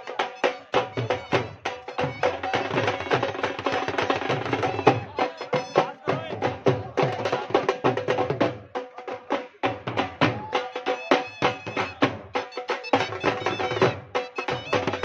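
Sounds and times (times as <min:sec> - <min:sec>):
dhol drumming: 0:00.0 - 0:15.0.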